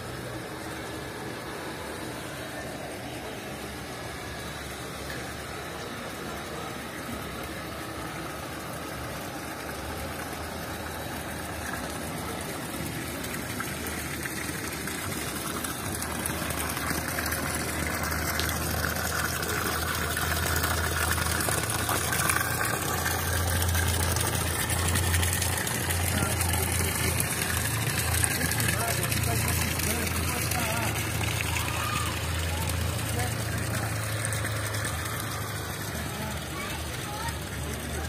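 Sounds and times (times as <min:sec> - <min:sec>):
water feature running water: 0:00.0 - 0:38.0.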